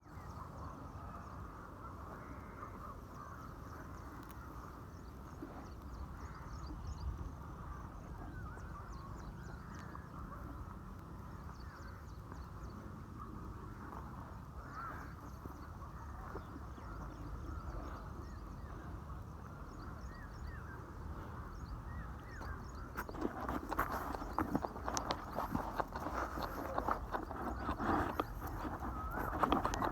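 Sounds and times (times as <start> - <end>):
birds calling and chirping: 0.0 - 29.9.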